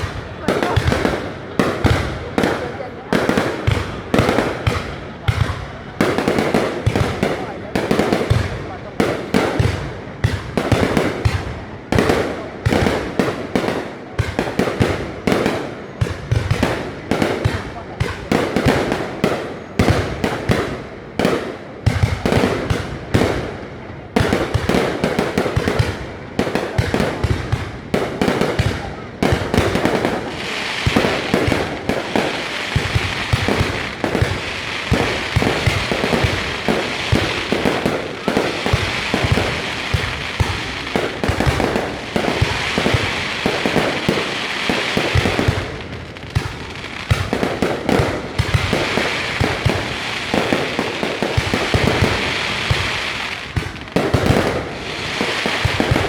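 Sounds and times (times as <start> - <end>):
fireworks bangs and pops: 0.0 - 56.0.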